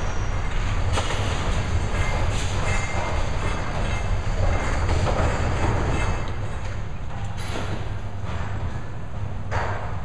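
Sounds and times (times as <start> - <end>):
demolition machinery rumbling: 0.0 - 10.0.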